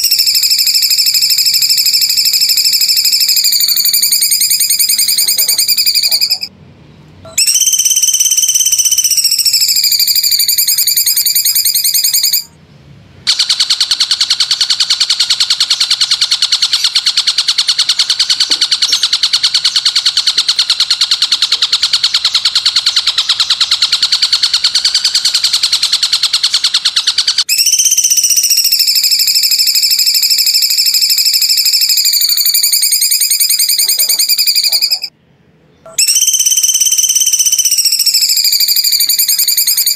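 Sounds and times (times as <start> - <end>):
fast rasping trill: 0.0 - 6.5, 7.3 - 12.5, 13.3 - 35.1
wavering whistled buzz: 0.0 - 6.5, 7.2 - 12.6, 13.3 - 35.1, 35.8 - 39.9.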